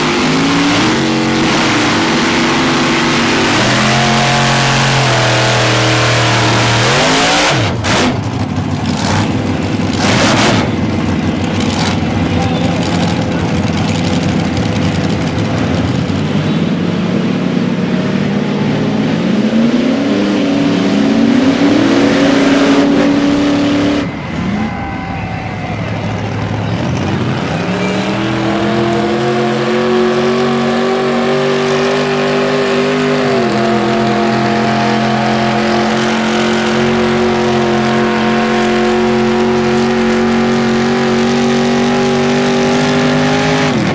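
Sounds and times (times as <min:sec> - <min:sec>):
truck engines revving hard: 0:00.0 - 0:43.9.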